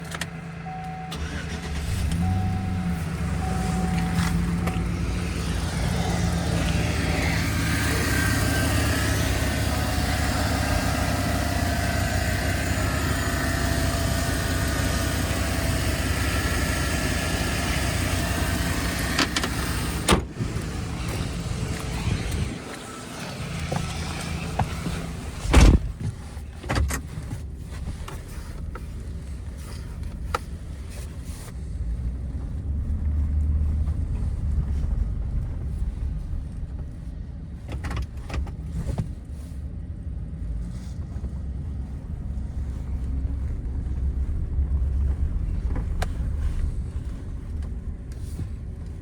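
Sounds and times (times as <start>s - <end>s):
pickup engine starting and idling: 0.0s - 39.6s, 40.4s - 49.0s.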